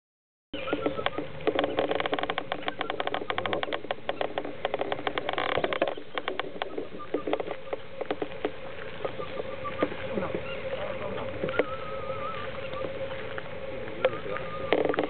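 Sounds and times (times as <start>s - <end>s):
geese bills plucking clicks: 0.6s - 15.0s
goslings peeping: 0.6s - 15.0s.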